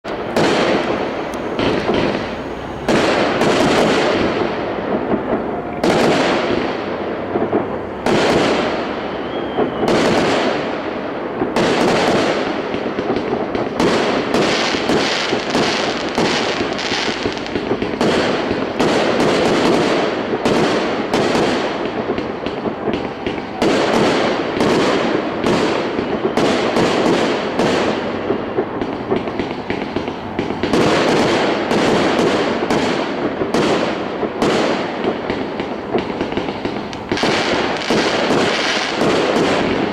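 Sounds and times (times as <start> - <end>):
fireworks bangs with crackling: 0.0 - 39.9.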